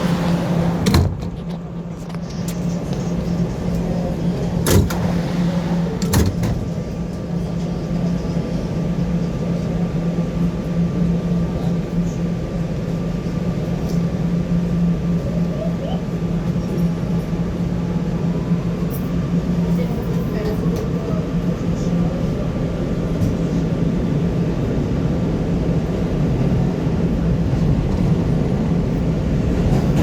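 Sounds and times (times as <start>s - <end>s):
subway train humming: 0.0s - 30.0s.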